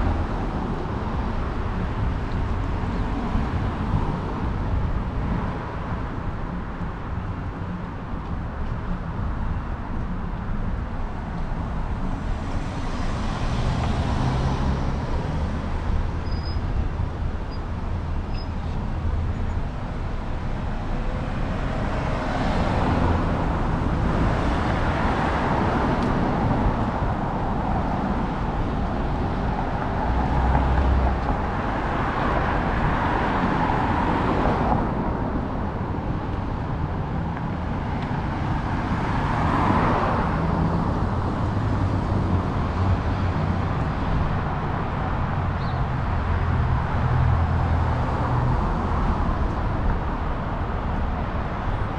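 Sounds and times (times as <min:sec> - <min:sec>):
cars passing: 0:00.0 - 0:51.9.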